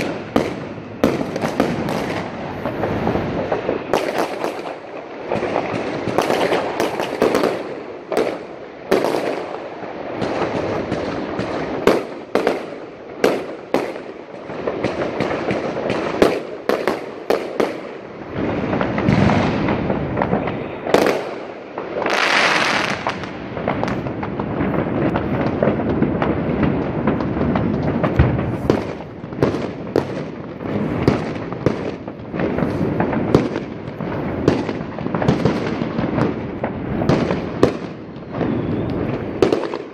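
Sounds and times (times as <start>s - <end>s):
continuous crackling hiss: 0.0s - 39.9s
fireworks bangs and cracks: 0.0s - 39.9s.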